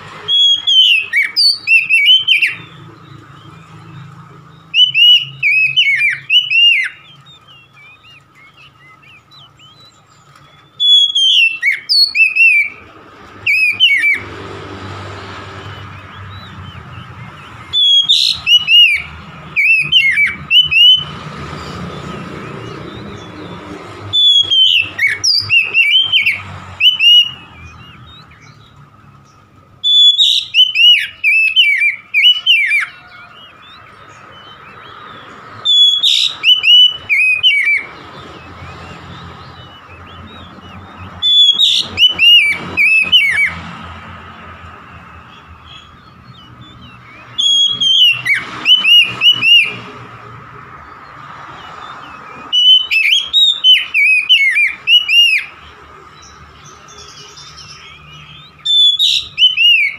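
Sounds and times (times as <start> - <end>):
bird singing whistled phrases: 0.3 - 12.8, 13.4 - 14.3, 15.6 - 43.6, 45.1 - 50.0, 51.8 - 55.6, 56.2 - 59.9.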